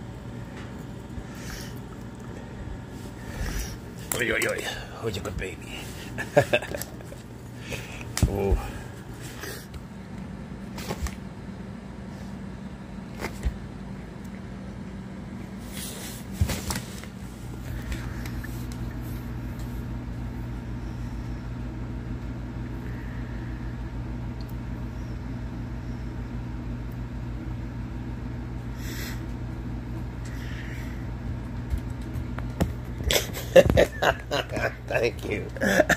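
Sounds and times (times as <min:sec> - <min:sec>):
low mechanical hum: 0:00.0 - 0:35.9.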